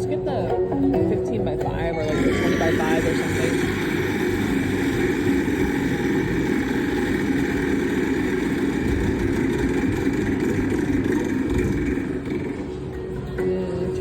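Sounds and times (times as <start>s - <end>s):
spinning wheel whirring: 1.8s - 13.0s.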